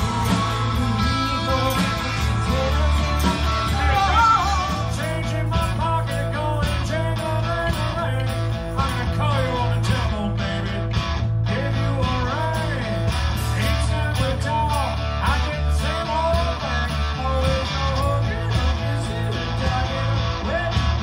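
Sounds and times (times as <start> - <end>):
electric guitar lead line: 0.0 - 21.0
live rock band playing: 0.0 - 21.0.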